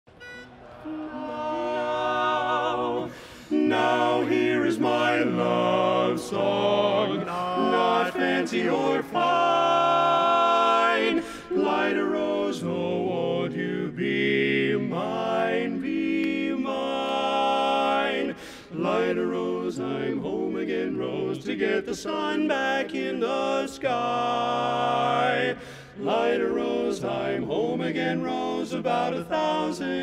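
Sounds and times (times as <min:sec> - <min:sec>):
male quartet singing a cappella: 0:00.8 - 0:30.0.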